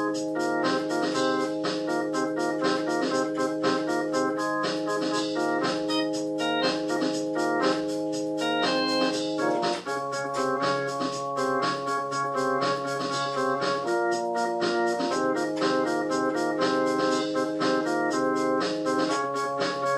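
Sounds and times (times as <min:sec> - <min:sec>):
organ music: 0:00.0 - 0:19.9.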